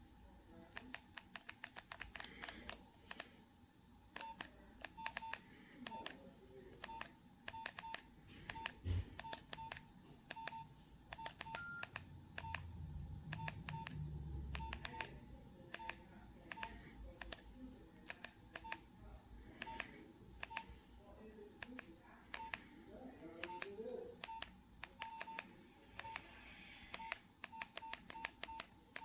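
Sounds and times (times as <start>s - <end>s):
keypad beeps: 0.8s - 3.2s, 4.2s - 6.2s, 6.8s - 17.4s, 18.0s - 18.8s, 19.5s - 20.7s, 21.6s - 22.7s, 23.3s - 26.3s, 26.9s - 29.0s.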